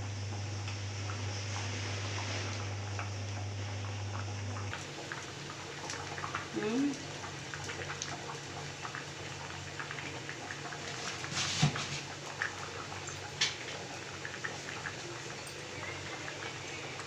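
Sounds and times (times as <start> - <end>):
gravy bubbling in a pan: 0.0 - 17.0.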